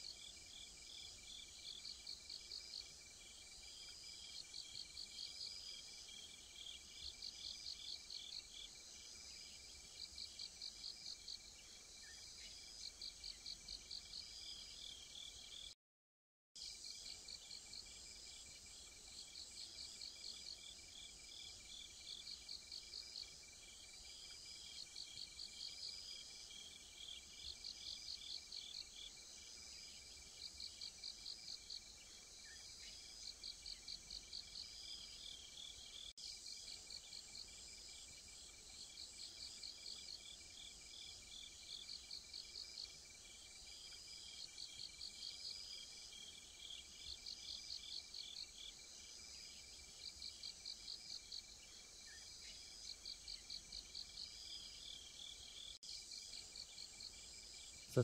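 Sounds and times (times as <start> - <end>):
insect chirps: 0.0 - 15.8, 16.6 - 58.0.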